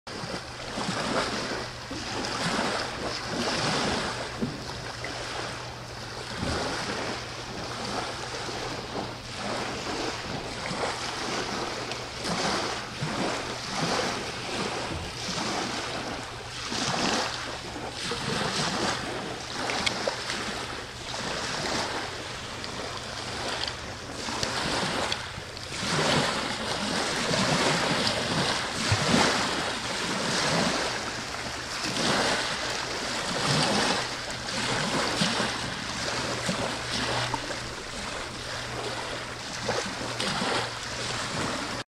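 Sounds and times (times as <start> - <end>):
waves lapping against sea wall: 0.1 - 41.8.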